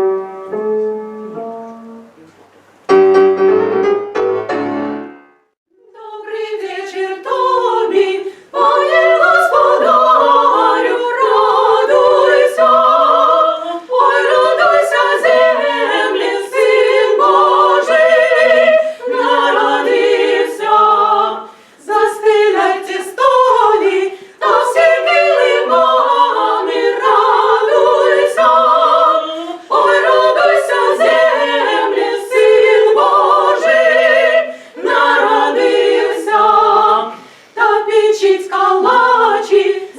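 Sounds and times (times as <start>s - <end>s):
choir singing unaccompanied: 5.7s - 39.9s.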